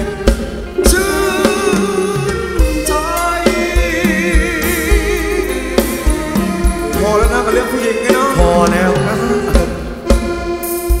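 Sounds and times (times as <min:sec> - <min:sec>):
live band dance music: 0:00.0 - 0:11.0.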